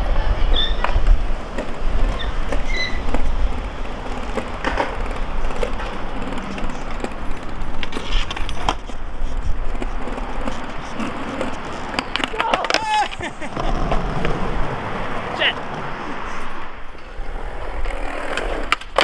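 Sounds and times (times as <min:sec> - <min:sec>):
skateboard wheels rumbling: 0:00.0 - 0:19.0
skateboard clacks: 0:00.1 - 0:16.0, 0:16.9 - 0:19.0.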